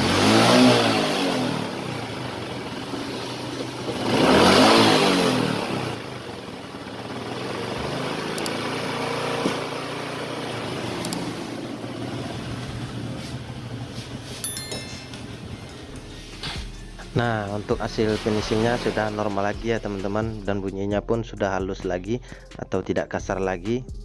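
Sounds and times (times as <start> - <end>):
motorcycle engine revving and idling: 0.0 - 14.4, 15.0 - 22.3.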